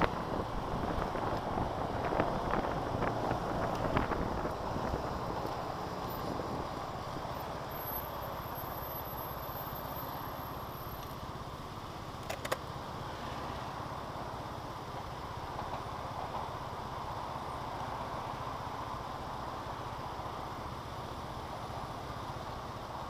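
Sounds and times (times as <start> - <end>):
traffic rushing: 0.0 - 23.0.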